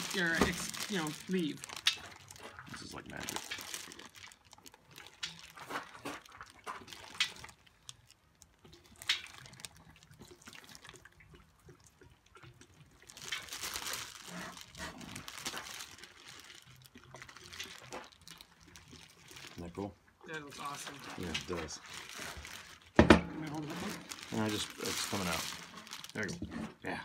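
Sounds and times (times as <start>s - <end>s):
hot water pouring from kettle: 0.0s - 19.9s, 20.5s - 26.5s
water splashing and trickling: 0.0s - 27.0s.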